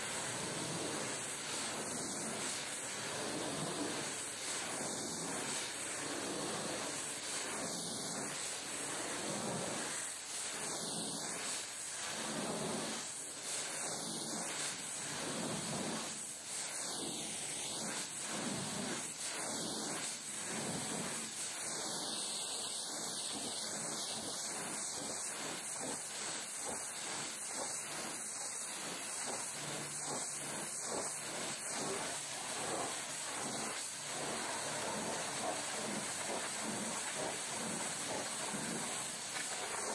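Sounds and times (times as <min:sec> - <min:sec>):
pressure washer spraying water: 0:00.0 - 0:16.2, 0:17.0 - 0:39.9.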